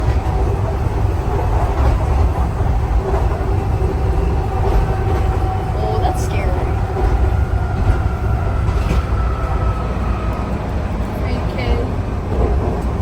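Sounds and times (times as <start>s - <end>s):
train car rumbling: 0.0s - 13.0s.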